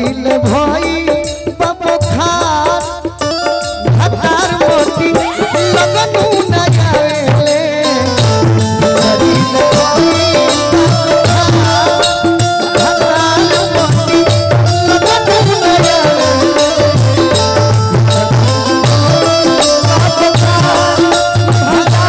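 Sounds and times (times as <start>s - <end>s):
hand drums: 0.0s - 22.0s
shaken percussion: 3.2s - 22.0s
wavering melody line: 3.4s - 22.0s.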